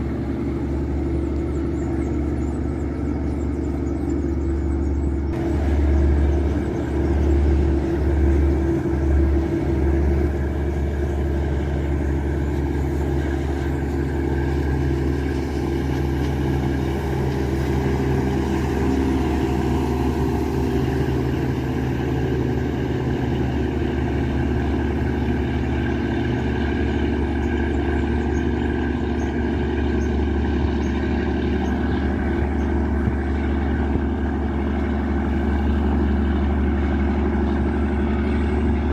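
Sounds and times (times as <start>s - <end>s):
boat diesel engine humming: 0.0s - 38.9s.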